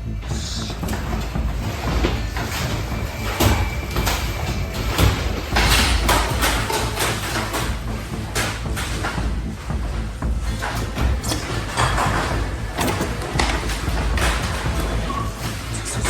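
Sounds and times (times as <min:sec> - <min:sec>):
building rattling and banging: 0:00.0 - 0:16.0.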